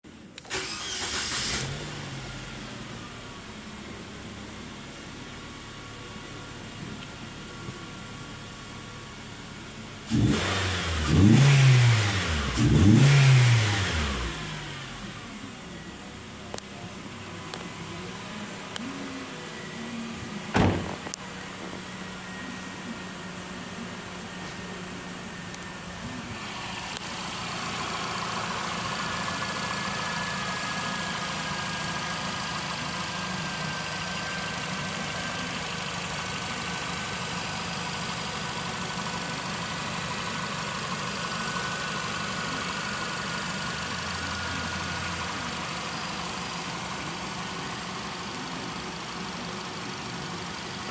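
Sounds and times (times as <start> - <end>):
car engine idling: 0.1 - 10.3, 11.9 - 50.9.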